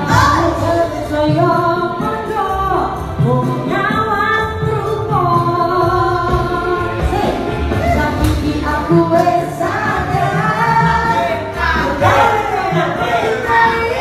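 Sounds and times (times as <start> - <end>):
backing music with low beat: 0.0 - 14.0
woman singing into microphone: 0.0 - 14.0.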